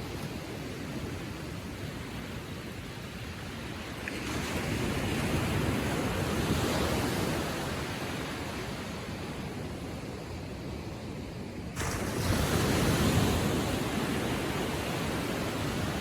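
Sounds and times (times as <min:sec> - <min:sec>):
ocean waves lapping on sand: 0:00.0 - 0:16.0.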